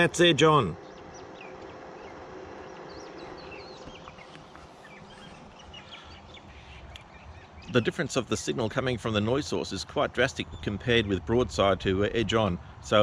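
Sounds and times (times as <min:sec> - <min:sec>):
small birds chirping: 0:00.0 - 0:11.5
low outdoor background: 0:00.0 - 0:13.0.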